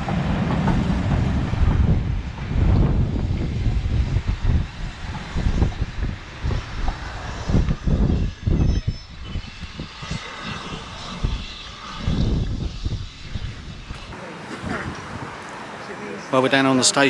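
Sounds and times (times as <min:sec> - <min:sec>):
wind buffeting microphone: 0:00.0 - 0:15.5
railway coaches rolling on track: 0:00.0 - 0:17.0.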